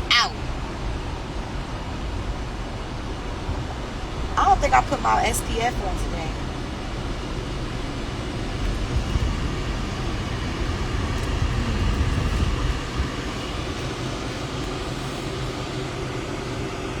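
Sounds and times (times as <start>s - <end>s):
road and engine rumble inside car: 0.0s - 17.0s.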